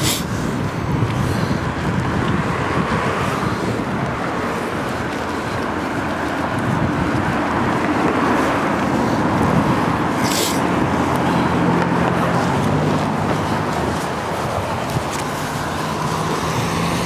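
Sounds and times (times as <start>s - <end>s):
low engine hum: 0.0s - 17.0s
road traffic: 0.0s - 17.0s.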